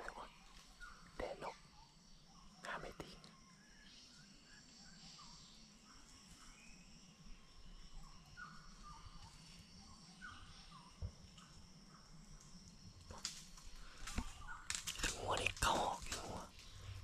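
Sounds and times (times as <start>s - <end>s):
high insect hum: 0.0s - 17.0s.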